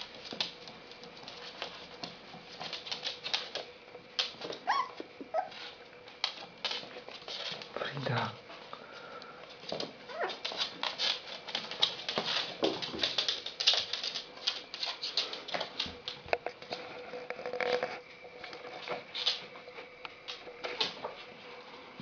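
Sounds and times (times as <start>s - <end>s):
puppies clicking and scuffling: 0.0s - 22.0s.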